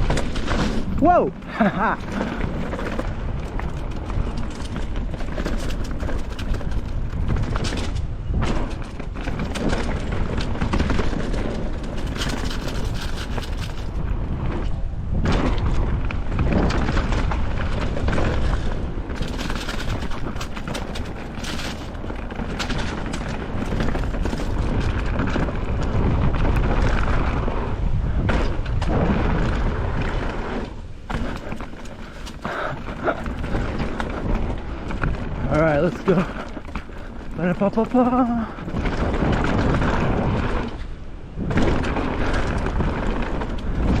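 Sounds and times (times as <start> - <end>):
mountain bike clattering: 0.0 - 44.0
wind buffeting microphone: 0.0 - 44.0.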